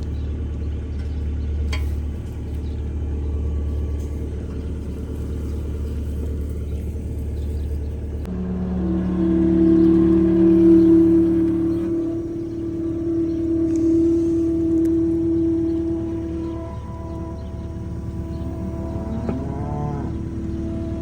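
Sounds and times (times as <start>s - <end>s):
engine rumbling: 0.0s - 21.0s
sustained musical tones: 1.9s - 21.0s.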